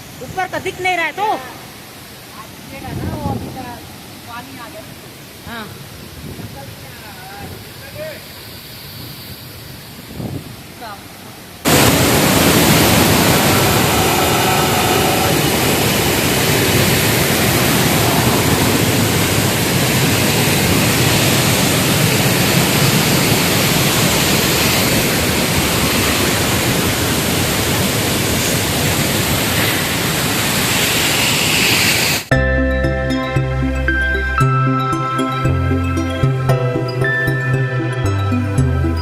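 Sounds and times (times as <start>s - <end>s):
waterfall rushing: 0.0s - 10.0s, 10.6s - 39.0s.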